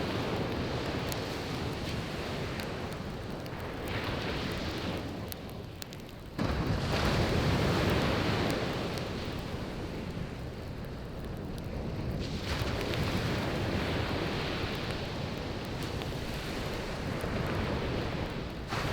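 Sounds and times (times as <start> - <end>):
campfire crackling: 0.0 - 18.9
waves washing onto beach: 0.0 - 18.9.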